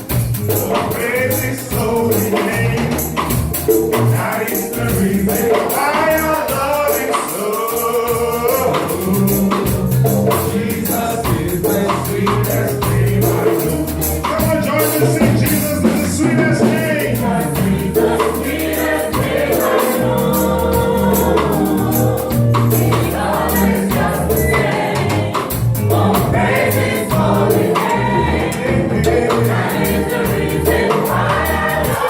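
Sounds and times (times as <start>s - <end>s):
band with bass and percussion: 0.0s - 32.0s
gospel choir singing: 0.0s - 32.0s.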